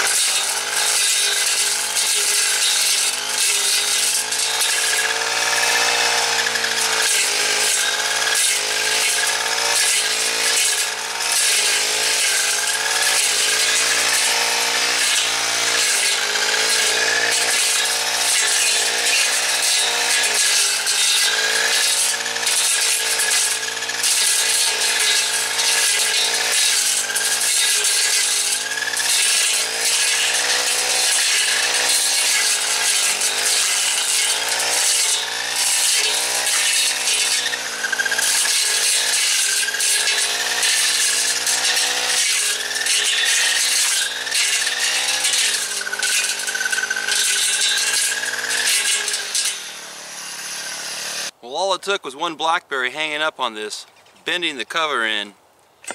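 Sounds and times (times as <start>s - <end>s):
brush cutter engine running: 0.0s - 51.4s
blade cutting through brambles: 0.0s - 55.9s.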